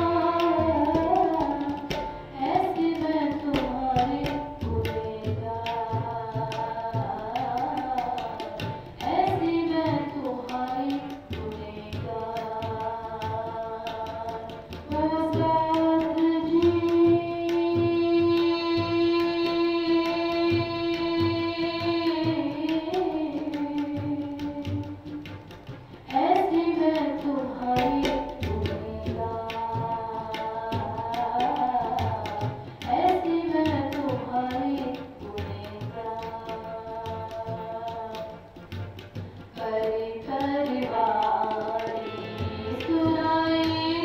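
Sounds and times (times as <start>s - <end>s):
woman singing devotional song: 0.0s - 44.0s.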